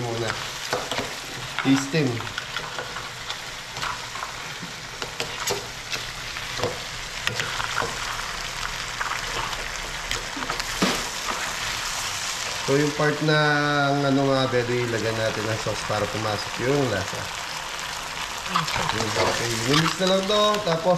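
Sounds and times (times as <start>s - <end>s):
food sizzling in a wok: 0.0s - 20.9s.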